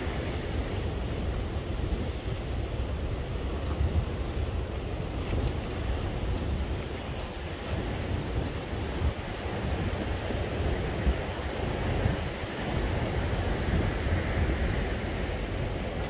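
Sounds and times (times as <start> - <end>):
wind blowing over microphone: 0.0 - 16.0.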